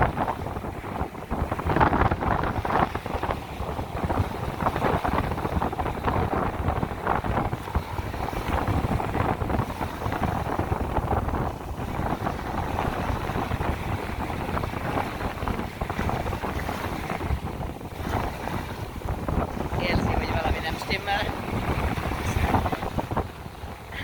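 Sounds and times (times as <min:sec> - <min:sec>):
sea washing on the shore: 0:00.0 - 0:24.0
wind buffeting the microphone: 0:00.0 - 0:24.0.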